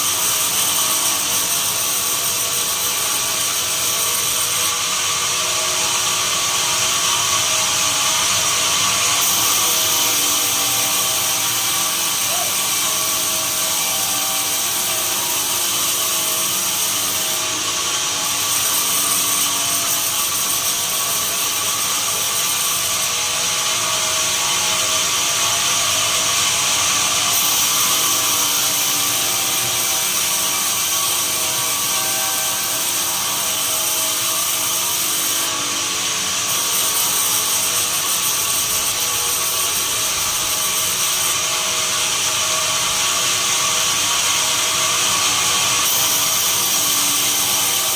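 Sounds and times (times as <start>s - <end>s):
sawmill saw cutting wood: 0.0s - 47.9s.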